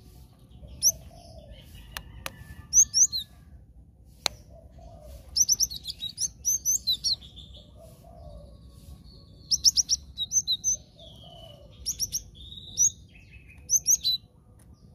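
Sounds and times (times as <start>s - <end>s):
bird chirping: 0.0s - 3.5s, 4.2s - 14.9s.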